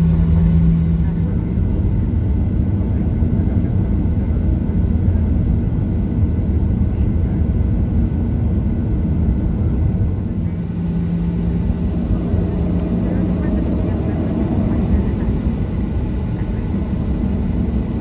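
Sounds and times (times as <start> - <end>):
jet engines rumbling in cabin: 0.0 - 18.0
steady low hum: 0.0 - 18.0.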